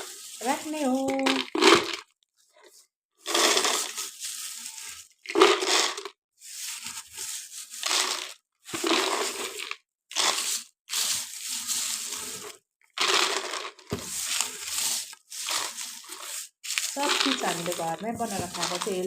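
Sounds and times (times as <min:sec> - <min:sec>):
fried snacks rattling into a jar: 0:00.0 - 0:02.1, 0:03.3 - 0:19.0.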